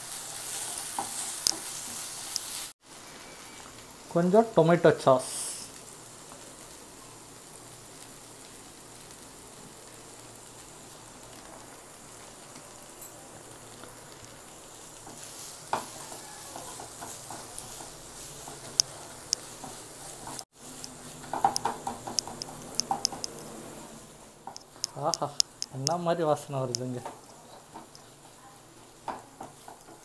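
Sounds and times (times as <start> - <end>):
onions and mushrooms sizzling in pan: 0.0 - 30.0.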